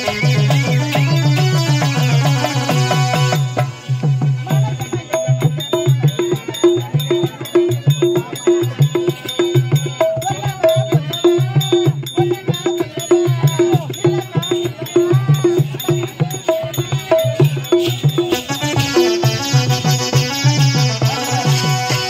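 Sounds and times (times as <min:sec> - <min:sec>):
folk dance music: 0:00.0 - 0:11.6, 0:14.7 - 0:22.0
steady drum beat: 0:00.0 - 0:22.0.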